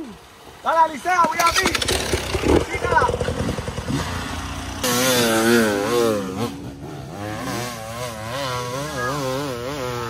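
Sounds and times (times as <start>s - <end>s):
dirt bike engine revving: 1.4s - 10.0s.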